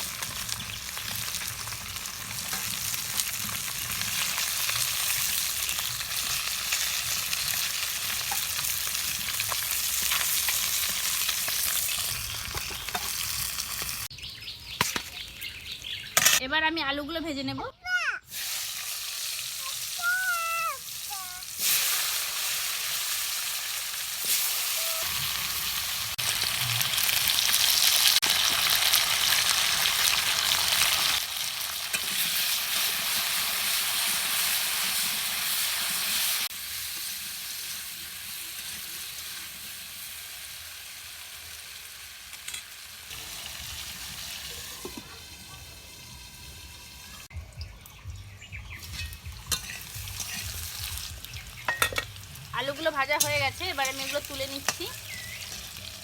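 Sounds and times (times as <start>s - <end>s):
potatoes sizzling in hot oil: 0.0s - 14.1s, 18.3s - 47.3s, 48.5s - 56.0s.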